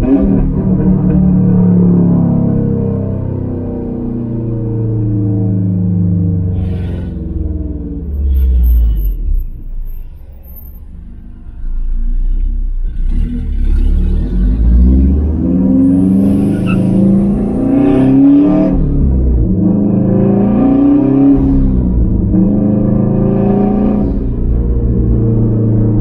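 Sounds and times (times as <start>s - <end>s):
car engine accelerating through gears: 0.0s - 26.0s.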